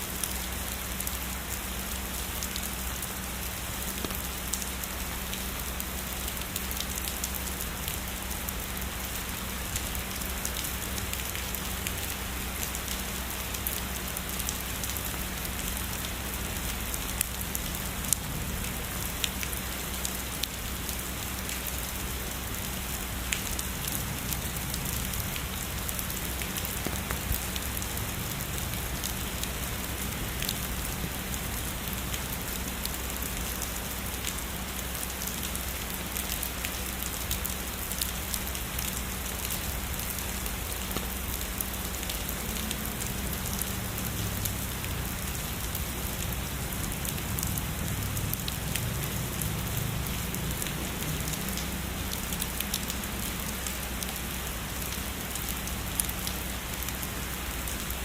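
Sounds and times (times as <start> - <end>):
heavy rain falling: 0.0 - 58.0
loud raindrops hitting close: 0.0 - 58.0.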